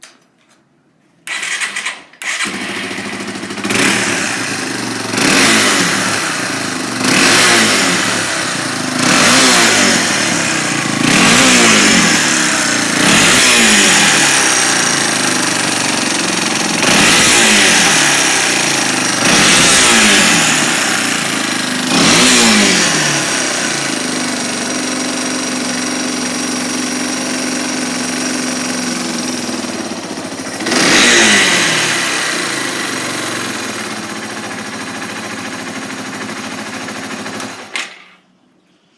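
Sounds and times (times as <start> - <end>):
motorcycle engine revving: 1.3 - 37.7.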